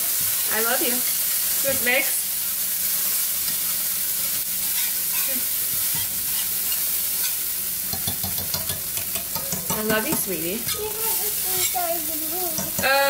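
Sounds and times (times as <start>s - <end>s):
eggs sizzling in frying pan: 0.0s - 13.0s.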